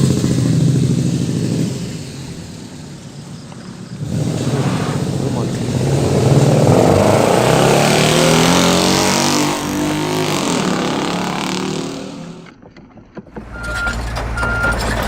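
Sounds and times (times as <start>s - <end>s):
truck engine revving: 0.0s - 12.5s, 13.3s - 15.0s.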